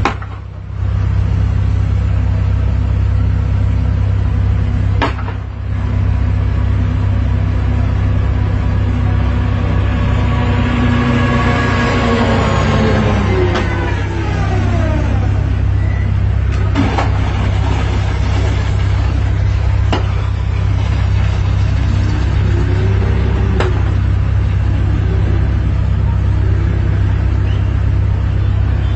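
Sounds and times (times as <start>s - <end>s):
loud low rumble: 0.0s - 28.9s.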